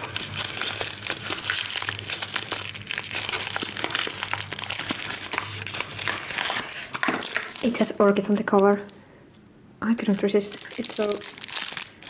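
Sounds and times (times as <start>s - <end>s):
paper wrapping crinkling: 0.0s - 8.9s, 10.0s - 12.0s.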